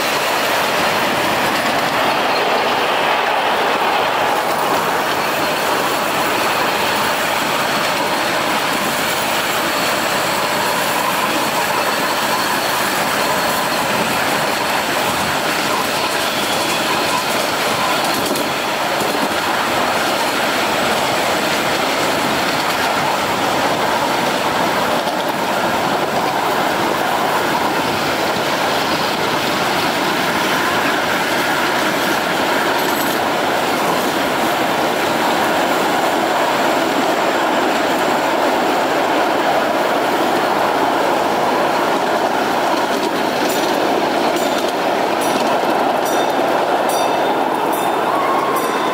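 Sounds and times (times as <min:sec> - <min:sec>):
small steel wheels on rails: 0:00.0 - 0:48.9.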